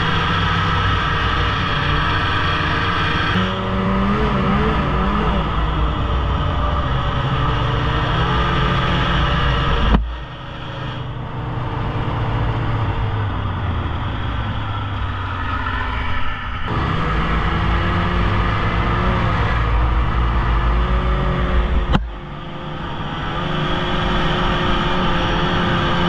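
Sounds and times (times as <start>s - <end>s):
snowmobile engine running: 0.0s - 15.6s, 16.7s - 26.0s.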